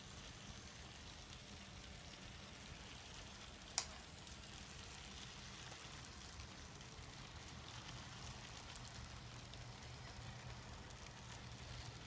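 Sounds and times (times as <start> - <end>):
model train wheels on rails: 0.0 - 12.0.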